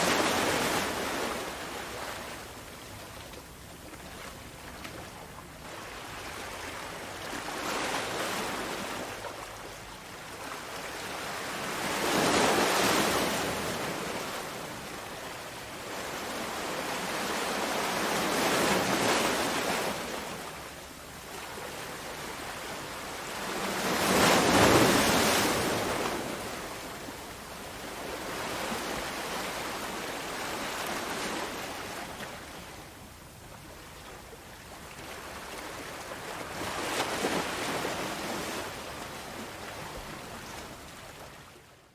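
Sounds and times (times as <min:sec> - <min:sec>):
sea waves breaking on shore: 0:00.0 - 0:41.8.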